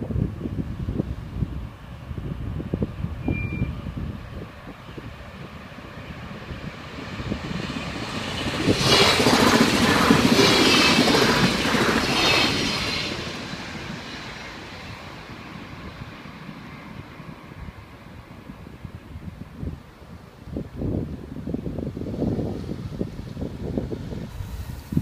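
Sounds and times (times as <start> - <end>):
train rumble and wheel noise: 0.0 - 25.0.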